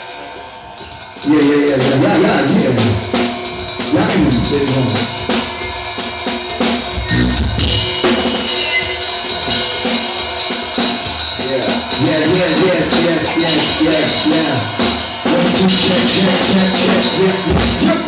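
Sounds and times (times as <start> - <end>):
cymbals: 0.0 - 18.0.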